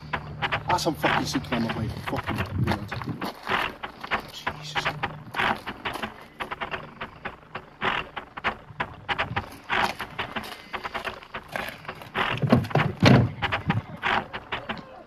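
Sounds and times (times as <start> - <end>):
footsteps on gravel: 0.0 - 15.0.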